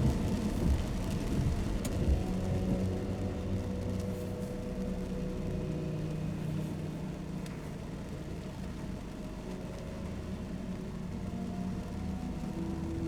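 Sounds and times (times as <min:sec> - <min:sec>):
rain: 0:00.0 - 0:13.0.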